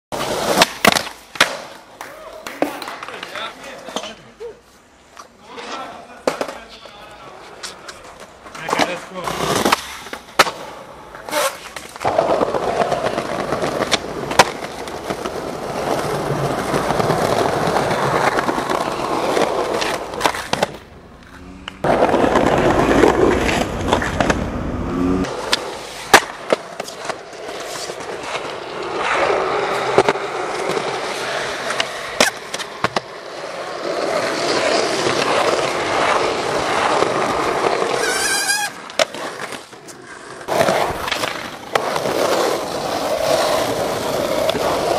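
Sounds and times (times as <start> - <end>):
skateboard wheels rolling on concrete: 0.1 - 44.9
skateboard popping and landing clacks: 0.2 - 4.2, 6.2 - 6.7, 7.7 - 24.6, 25.2 - 44.9.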